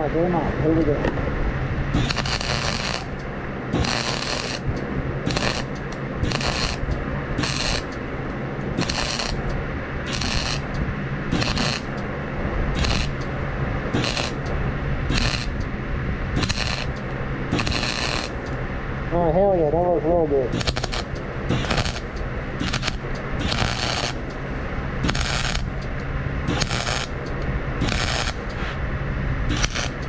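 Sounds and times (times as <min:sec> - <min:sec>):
steady low hum: 0:00.0 - 0:30.0
arc welding crackle: 0:01.9 - 0:19.6, 0:20.2 - 0:28.8, 0:29.5 - 0:30.0.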